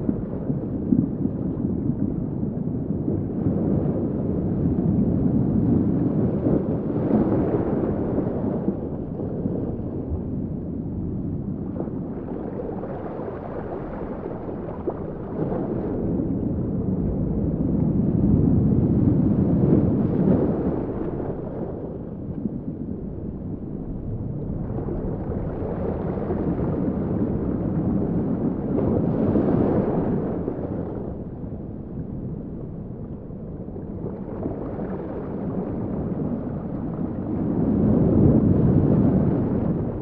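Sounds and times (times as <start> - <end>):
muffled underwater rush: 0.0 - 40.0.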